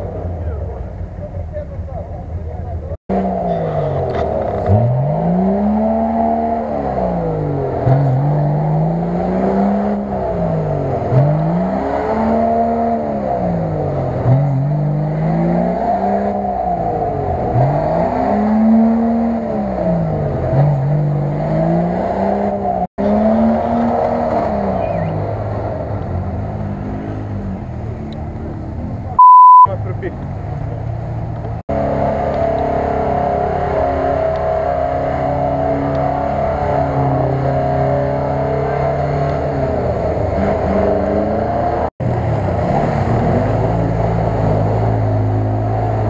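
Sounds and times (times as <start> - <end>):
engine revving: 2.9 - 46.0.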